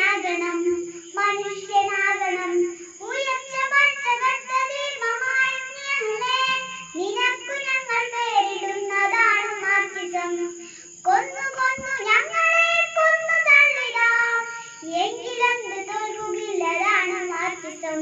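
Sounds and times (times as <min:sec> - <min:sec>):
faint high-pitched whine: 0:00.0 - 0:18.0
girl singing into microphone: 0:00.0 - 0:18.0.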